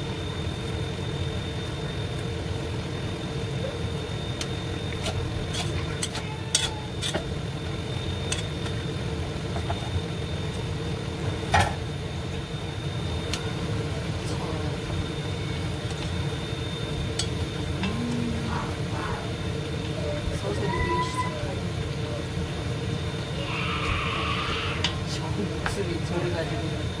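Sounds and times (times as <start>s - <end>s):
low kitchen hum: 0.0s - 27.0s.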